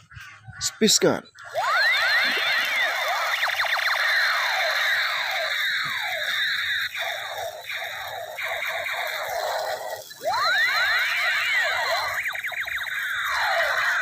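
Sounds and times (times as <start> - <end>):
toy laser gun zaps: 1.4 - 14.0.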